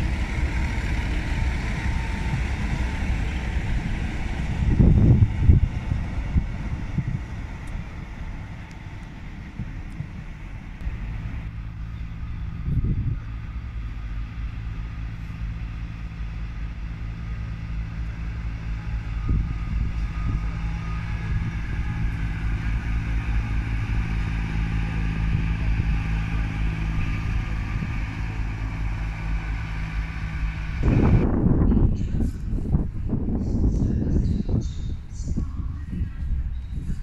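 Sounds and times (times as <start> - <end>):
diesel train engine droning: 0.0 - 37.0.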